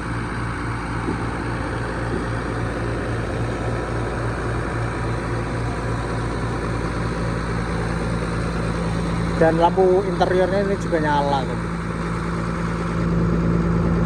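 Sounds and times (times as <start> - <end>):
diesel bus engine idling: 0.0 - 14.0.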